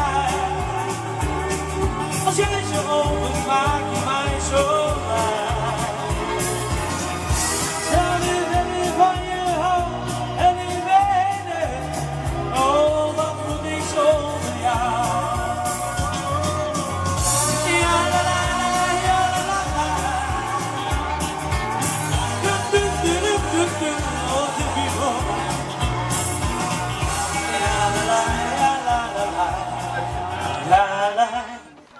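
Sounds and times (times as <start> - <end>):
musical accompaniment with bass beat: 0.0 - 31.4
man singing pop song: 0.0 - 31.9.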